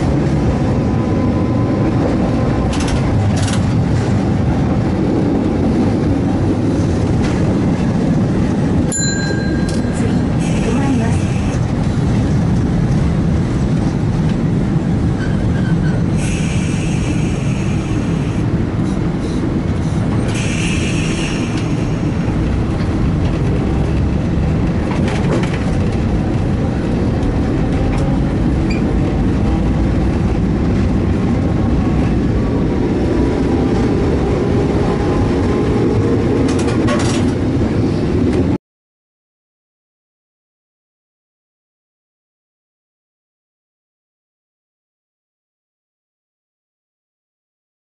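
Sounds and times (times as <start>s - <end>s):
streetcar wheels rumbling: 0.0s - 38.6s.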